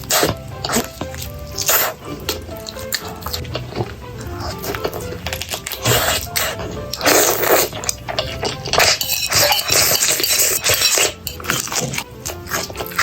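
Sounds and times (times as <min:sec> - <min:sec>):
crunching and chewing: 0:00.0 - 0:13.0
utensils clicking against dish: 0:00.0 - 0:13.0.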